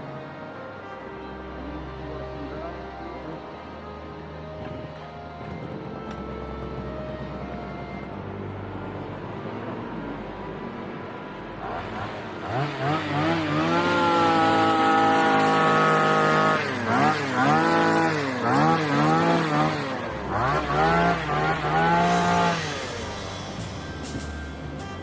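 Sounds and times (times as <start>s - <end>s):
vehicle engine revving: 0.8s - 25.0s.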